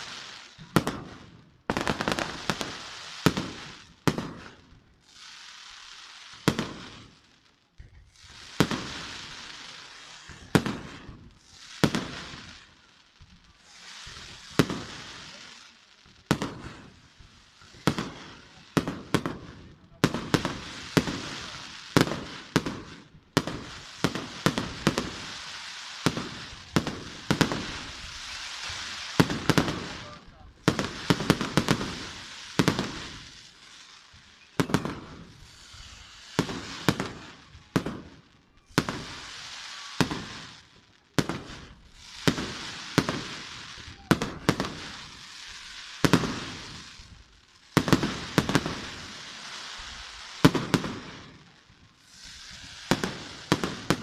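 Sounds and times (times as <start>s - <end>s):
fireworks crackling and hissing: 0.0s - 54.0s.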